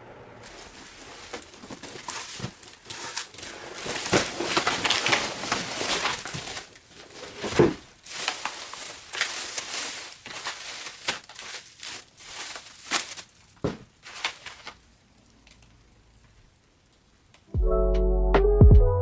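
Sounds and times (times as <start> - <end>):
plastic packages crinkling: 0.4 - 15.8.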